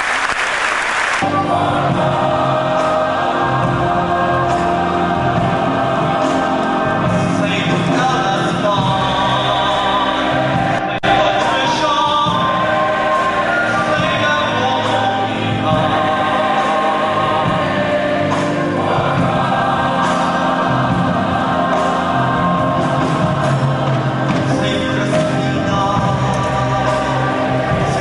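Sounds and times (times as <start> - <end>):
choir singing gospel: 1.0 - 28.0.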